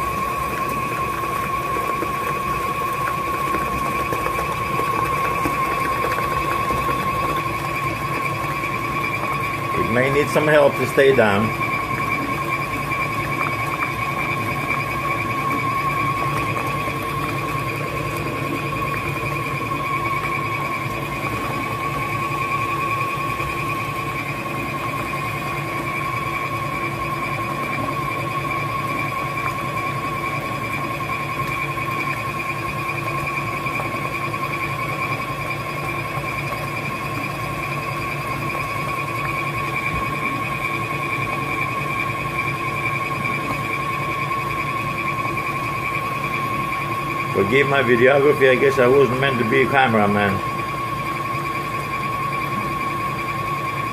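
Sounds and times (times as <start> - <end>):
stand mixer whining: 0.0 - 53.9.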